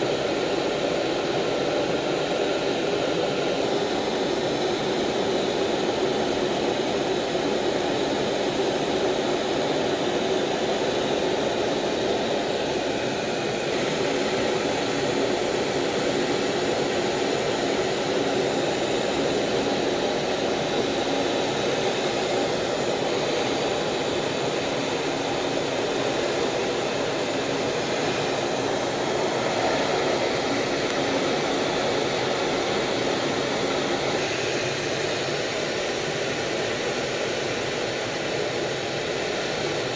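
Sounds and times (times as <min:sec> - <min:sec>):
jet cockpit rushing drone: 0:00.0 - 0:39.9.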